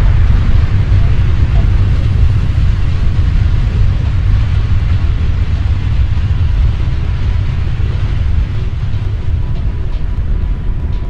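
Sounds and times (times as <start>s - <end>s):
wind buffeting drone microphone: 0.0s - 11.0s.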